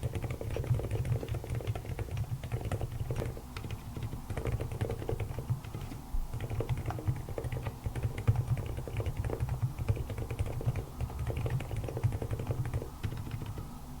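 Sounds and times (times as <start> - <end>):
fast mechanical keyboard typing: 0.0 - 13.7.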